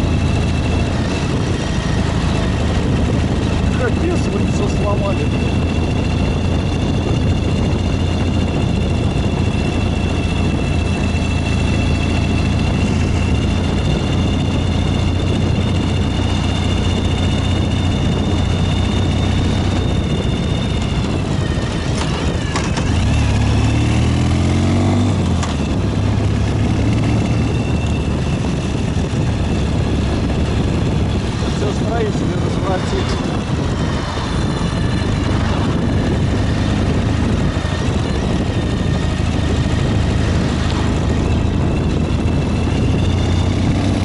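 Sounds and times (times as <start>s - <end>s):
high whine: 0.0s - 44.0s
motorcycle engine running: 0.0s - 44.0s.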